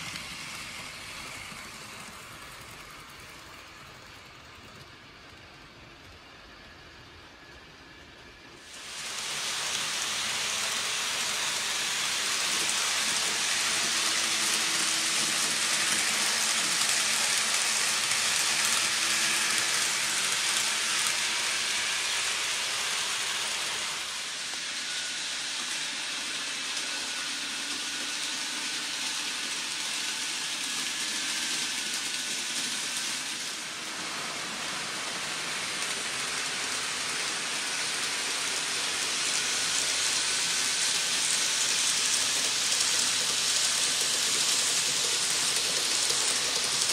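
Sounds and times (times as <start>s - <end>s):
model train rushing hiss: 0.0s - 6.3s, 8.2s - 46.9s.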